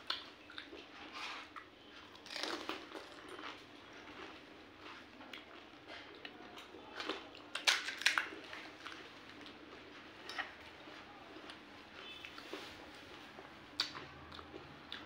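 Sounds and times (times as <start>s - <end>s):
person chewing crunchy food: 0.0s - 12.7s, 13.7s - 15.0s.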